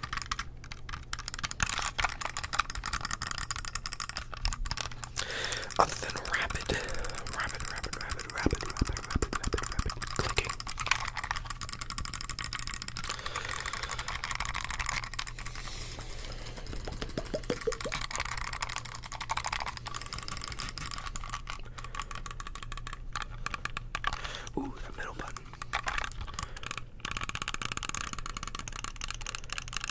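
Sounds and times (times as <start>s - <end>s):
computer mouse clicking: 0.0s - 29.9s.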